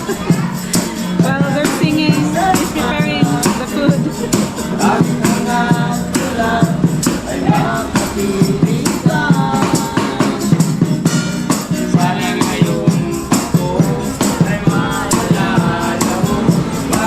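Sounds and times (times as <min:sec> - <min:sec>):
people singing together: 0:00.0 - 0:17.0
shaken percussion beat: 0:00.0 - 0:17.0.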